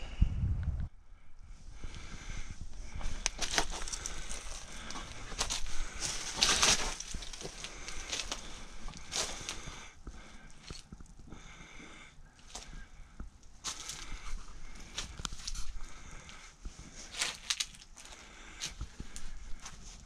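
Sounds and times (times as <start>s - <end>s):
footsteps crunching over rubble: 1.8s - 20.0s.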